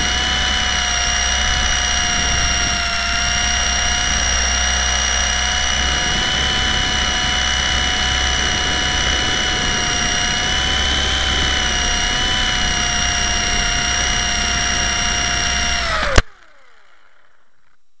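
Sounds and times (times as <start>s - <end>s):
rc helicopter motor whining: 0.0s - 17.8s.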